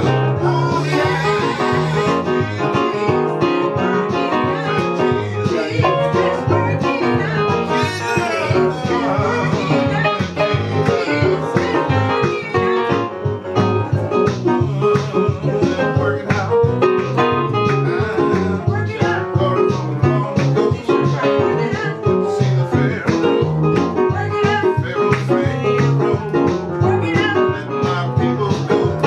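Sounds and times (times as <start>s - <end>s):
low bass line: 0.0s - 29.0s
plucked guitar music: 0.0s - 29.0s.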